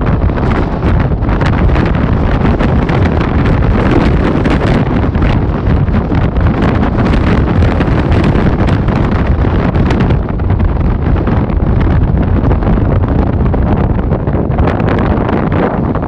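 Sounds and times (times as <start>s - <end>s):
storm waves breaking: 0.0s - 16.0s
wind buffeting microphone: 0.0s - 16.0s.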